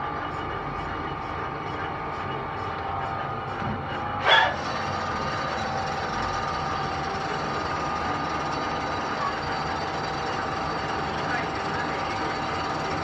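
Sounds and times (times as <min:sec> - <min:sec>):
machinery running with whining tones: 0:00.0 - 0:13.0.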